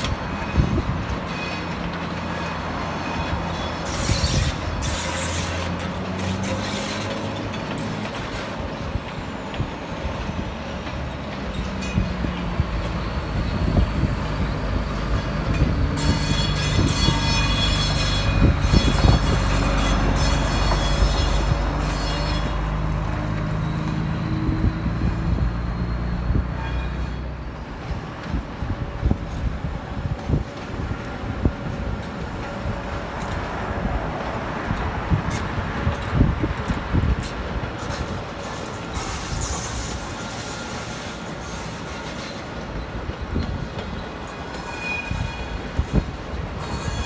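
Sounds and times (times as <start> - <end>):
train rumbling past: 0.0 - 47.0.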